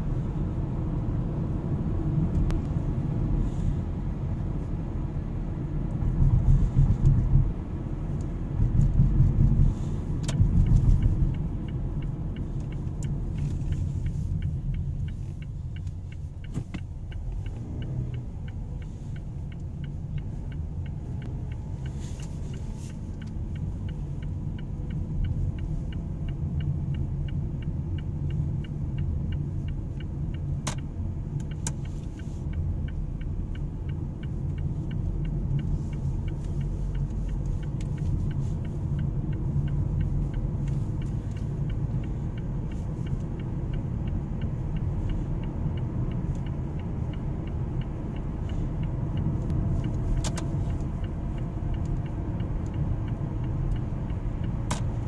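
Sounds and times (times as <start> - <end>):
car cabin road rumble: 0.0 - 55.0
faint even ticking: 7.1 - 55.0.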